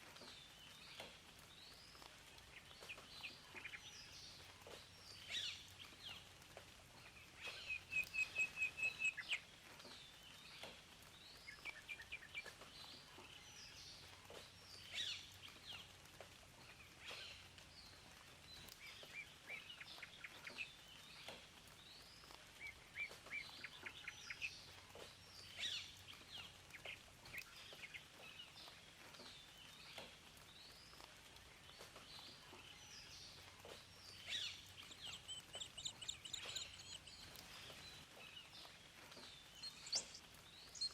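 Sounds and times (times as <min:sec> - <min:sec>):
faint background hiss: 0:00.0 - 0:40.9
birds singing and chirping: 0:00.2 - 0:15.9, 0:16.6 - 0:40.9.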